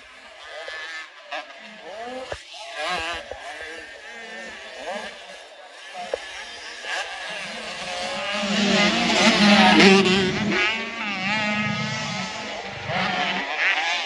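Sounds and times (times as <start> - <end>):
motocross bike engines revving: 0.1 - 14.0.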